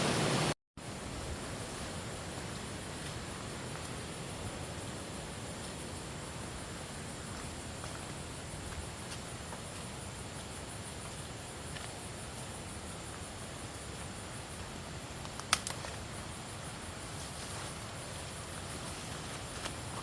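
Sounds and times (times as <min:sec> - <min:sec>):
background hiss: 0:00.0 - 0:20.0
insects chirping: 0:00.8 - 0:20.0.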